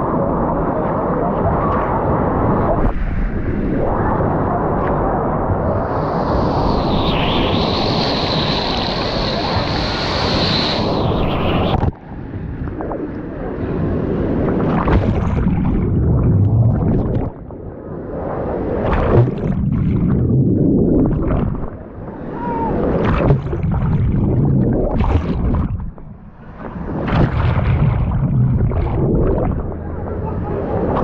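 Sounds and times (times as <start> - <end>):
waves churning low rumble: 0.0 - 31.0.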